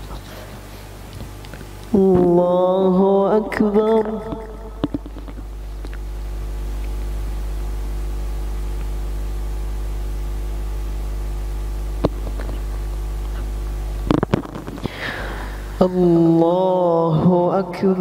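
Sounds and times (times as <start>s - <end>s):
electrical mains hum: 0.0s - 18.0s
faint sound system hiss: 0.0s - 18.0s.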